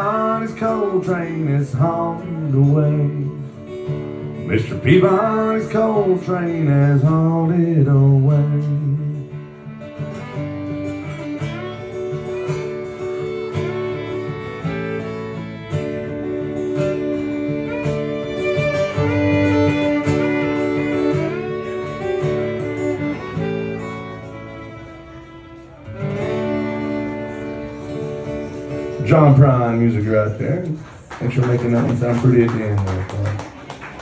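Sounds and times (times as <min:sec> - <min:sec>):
bowed fiddle melody: 0:00.0 - 0:30.2
strummed acoustic guitar: 0:00.0 - 0:34.0.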